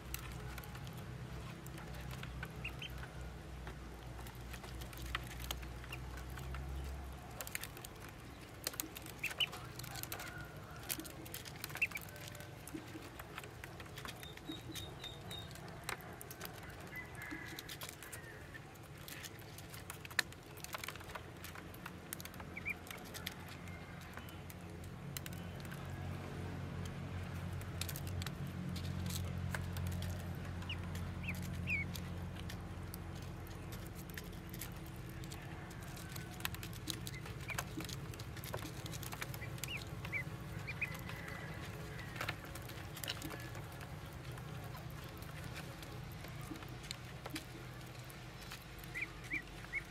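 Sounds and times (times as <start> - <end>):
ducklings peeping: 0.0 - 26.0, 29.1 - 49.9.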